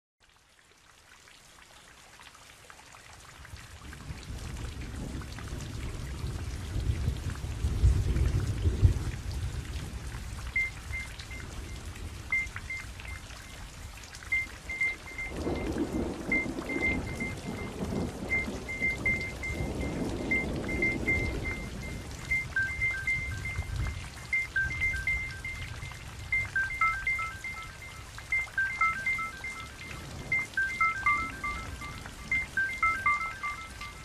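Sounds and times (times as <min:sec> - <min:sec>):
steady rain falling: 0:00.2 - 0:34.0
thunder rumble: 0:04.0 - 0:13.2, 0:14.3 - 0:34.0.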